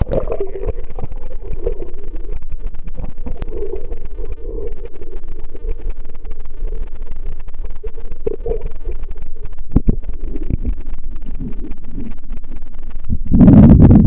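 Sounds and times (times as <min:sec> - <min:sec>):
muffled underwater rumble: 0:00.0 - 0:14.0
small underwater crackles: 0:00.0 - 0:14.0.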